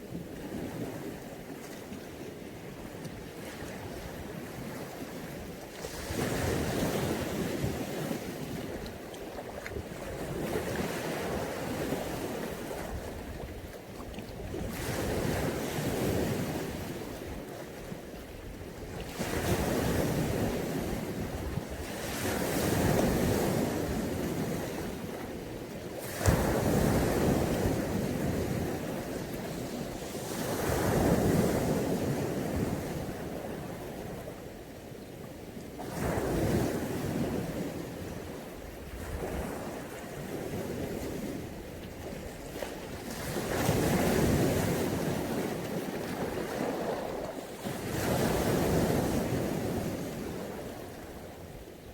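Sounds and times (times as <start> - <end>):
sea waves breaking on shore: 0.0 - 51.9.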